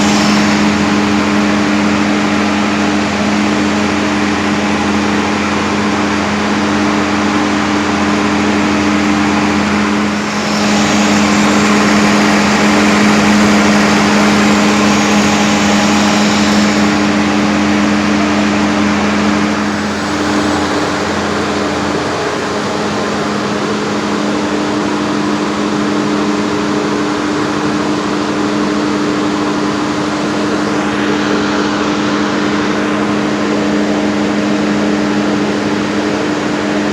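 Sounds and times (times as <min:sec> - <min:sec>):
diesel generator engine droning: 0:00.0 - 0:36.9.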